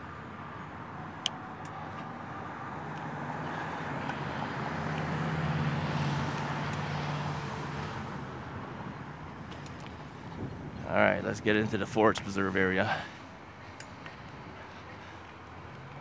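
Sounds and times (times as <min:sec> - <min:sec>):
vehicle passing by: 0:00.0 - 0:13.3.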